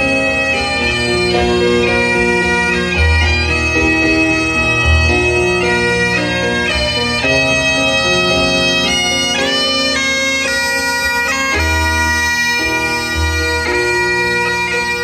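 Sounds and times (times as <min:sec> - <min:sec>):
bagpipe playing a tune: 0:00.0 - 0:15.0.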